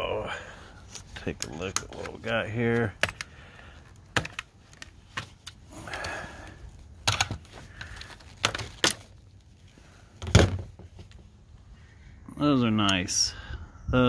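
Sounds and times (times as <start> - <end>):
soft rustle: 0.6 - 12.0.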